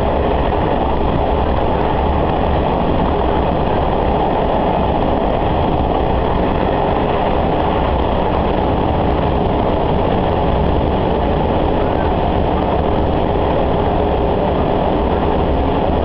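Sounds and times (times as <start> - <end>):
railcar engine and wheel rumble: 0.0 - 16.0.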